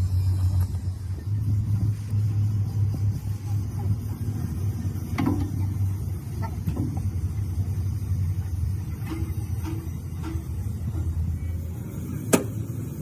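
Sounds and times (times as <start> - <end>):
engine running low rumble: 0.0 - 13.0.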